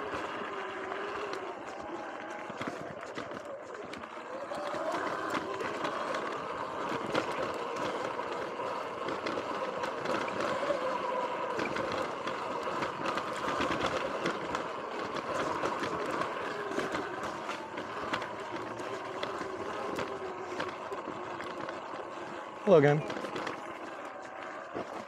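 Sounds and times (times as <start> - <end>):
electric motor whine: 0.0 - 25.0
small clicks from rough ground: 0.0 - 25.0
tyre and trail noise: 0.0 - 25.0.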